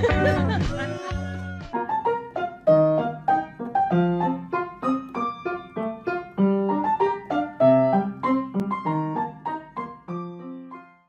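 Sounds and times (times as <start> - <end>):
lively piano melody: 0.0 - 11.0.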